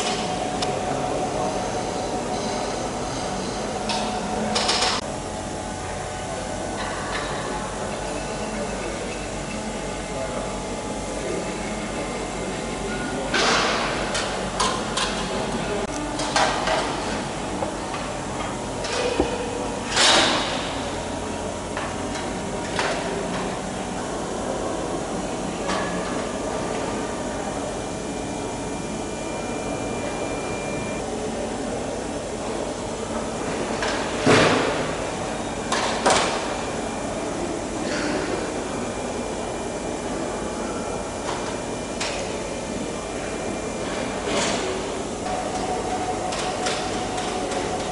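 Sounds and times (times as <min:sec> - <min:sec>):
workshop hum: 0:00.0 - 0:47.9.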